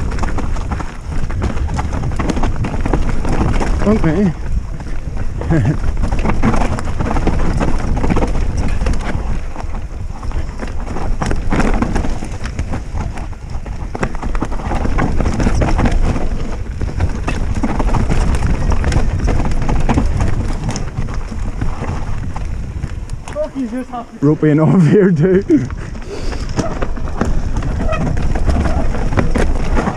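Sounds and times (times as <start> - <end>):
bike clattering over rocks: 0.0 - 29.9
tyre noise on dirt: 0.0 - 29.9
wind rumble on microphone: 0.0 - 29.9.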